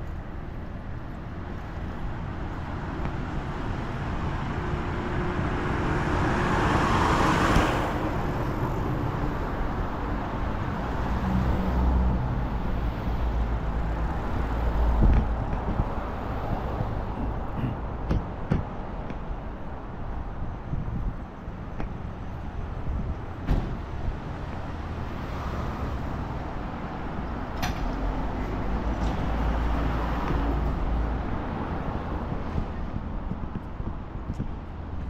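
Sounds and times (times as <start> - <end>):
city road traffic: 0.0 - 35.0
heavy vehicle engine: 0.0 - 35.0.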